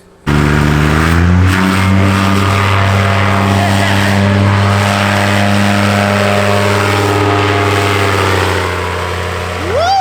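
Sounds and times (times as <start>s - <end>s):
paramotor engine droning: 0.0s - 10.0s.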